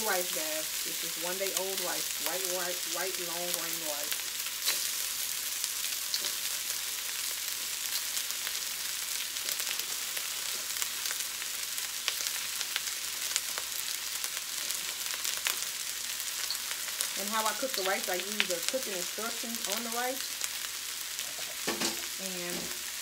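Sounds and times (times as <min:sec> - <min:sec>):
rice and shrimp frying in a wok: 0:00.0 - 0:23.0.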